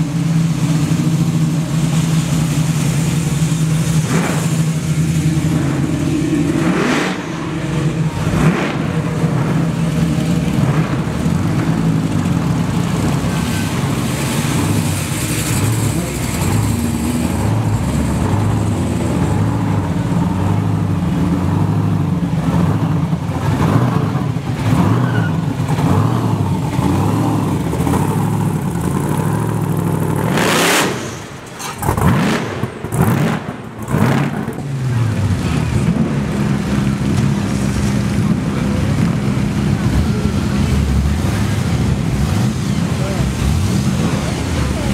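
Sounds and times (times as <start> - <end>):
car engine revving: 0.0 - 44.9
car engines rumbling past: 0.0 - 44.9.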